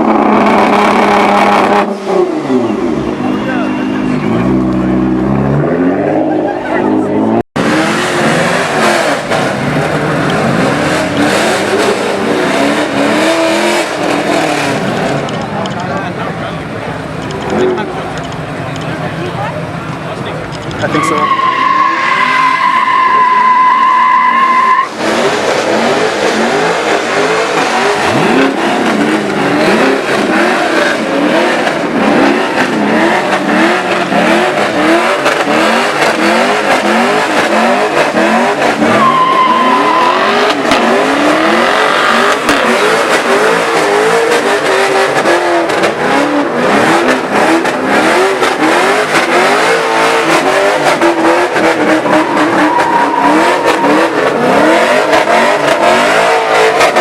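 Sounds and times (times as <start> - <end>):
car engine revving: 0.0 - 57.0
tires squealing: 0.0 - 57.0.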